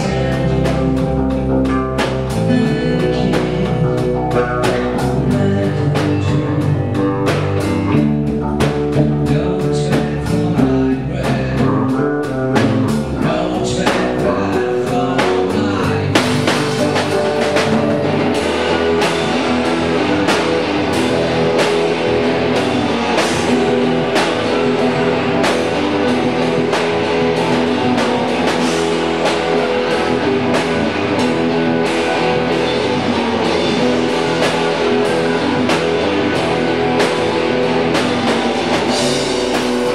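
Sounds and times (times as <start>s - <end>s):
drum kit: 0.0s - 39.9s
electric bass: 0.0s - 39.9s
electric guitar: 0.0s - 39.9s.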